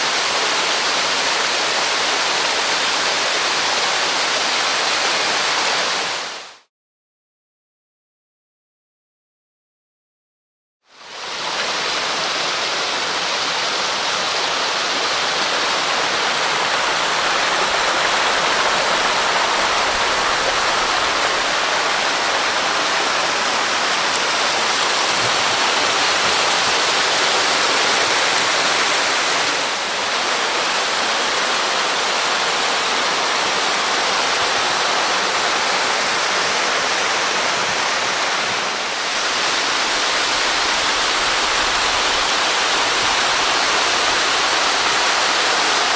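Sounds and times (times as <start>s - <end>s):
waterfall rushing: 0.0s - 6.6s, 11.0s - 45.9s.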